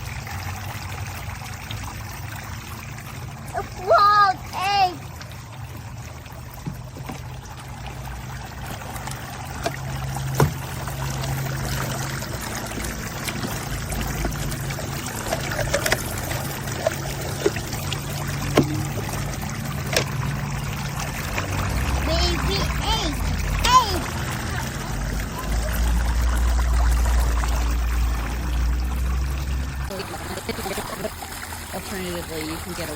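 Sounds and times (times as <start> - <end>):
light taps and splashes: 0.0 - 32.9
water pouring and trickling: 0.0 - 32.9.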